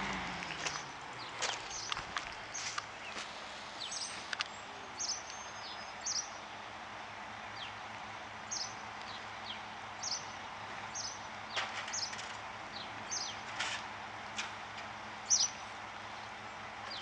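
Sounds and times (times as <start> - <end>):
small birds chirping: 0.0 - 6.5, 7.5 - 13.5, 15.2 - 17.0.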